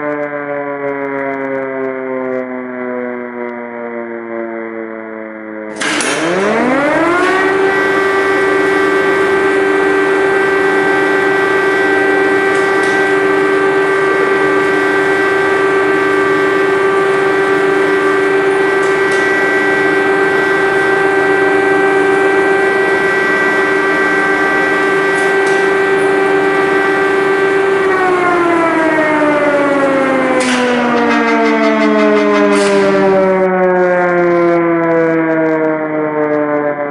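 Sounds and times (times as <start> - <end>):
air-raid siren: 0.0 - 36.9.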